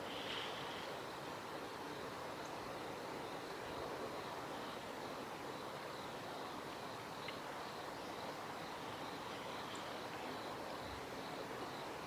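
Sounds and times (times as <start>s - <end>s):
outdoor hiss and rumble: 0.0s - 12.0s.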